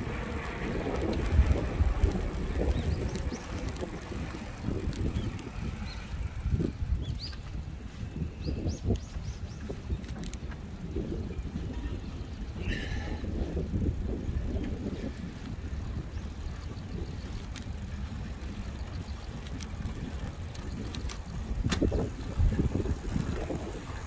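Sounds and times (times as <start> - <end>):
road noise on concrete path: 0.0 - 24.0
wind rumbling on microphone: 0.0 - 24.0.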